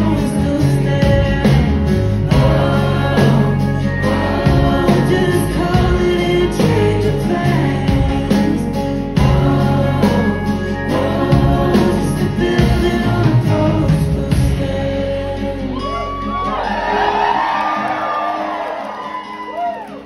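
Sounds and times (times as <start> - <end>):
person singing: 0.0 - 18.0
electric and acoustic guitars: 0.0 - 20.0.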